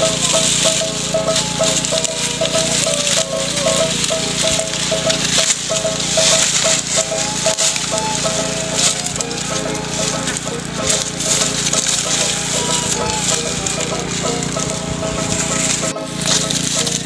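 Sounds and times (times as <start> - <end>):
dry stalks rustling and snapping: 0.0 - 17.0.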